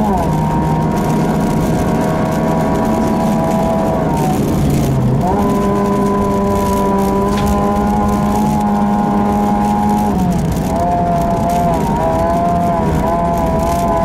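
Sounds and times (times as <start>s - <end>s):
car engine under load: 0.0s - 14.0s
road and tyre noise: 0.0s - 14.0s.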